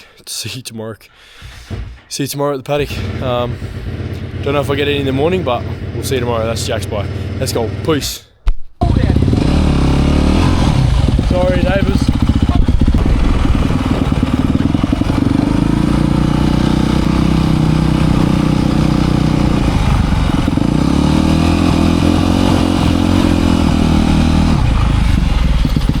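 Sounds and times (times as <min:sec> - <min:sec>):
dirt bike engine revving: 0:02.8 - 0:08.0, 0:08.8 - 0:26.0.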